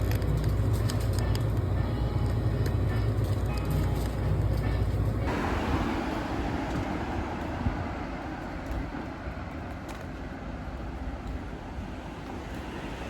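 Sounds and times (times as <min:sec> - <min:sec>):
moving vehicle rumble and hiss: 0:00.0 - 0:13.0.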